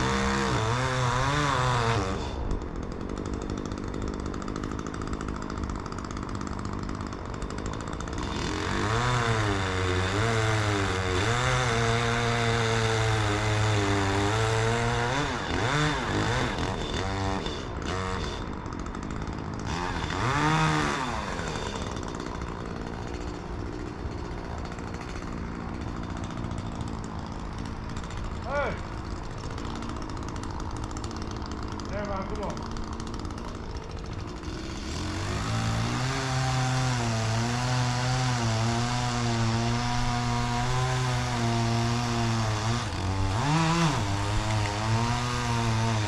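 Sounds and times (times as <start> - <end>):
chainsaw cutting: 0.0 - 46.0.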